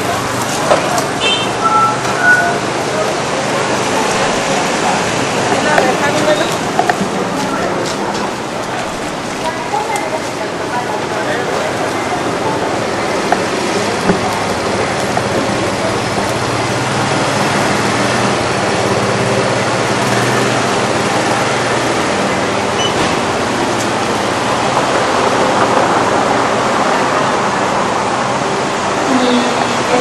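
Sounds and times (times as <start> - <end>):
street traffic noise: 0.0 - 30.0.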